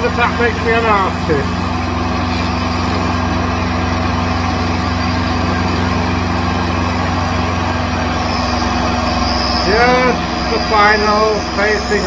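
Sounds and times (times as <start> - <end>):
mini lathe motor humming: 0.0 - 12.0.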